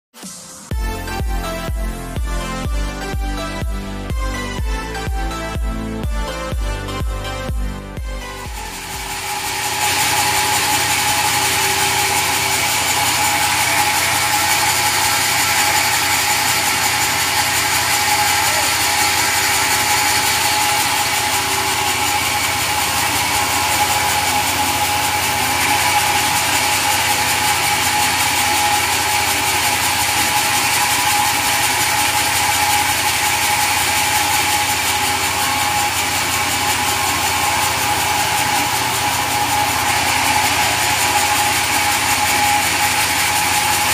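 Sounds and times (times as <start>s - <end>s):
steady high whine: 0.5s - 43.9s
sawmill machinery running: 0.7s - 43.9s.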